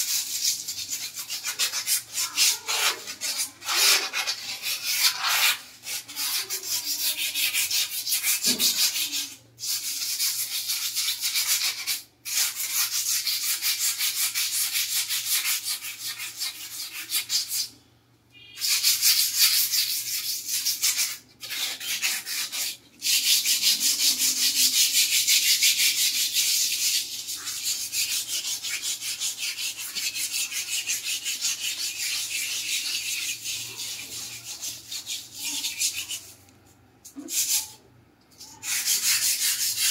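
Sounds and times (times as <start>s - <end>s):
scrubbing ceramic tiles: 0.0s - 17.7s, 18.6s - 39.9s.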